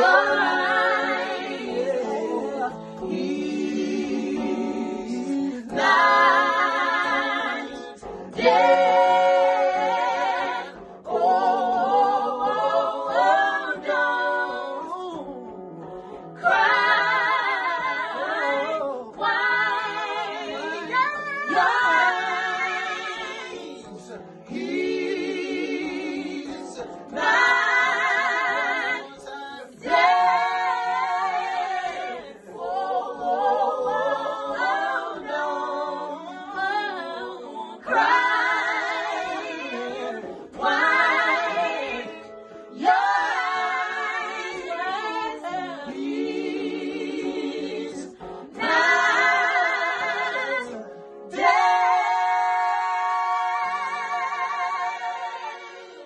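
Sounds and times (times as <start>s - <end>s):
group singing gospel a cappella: 0.0s - 56.0s.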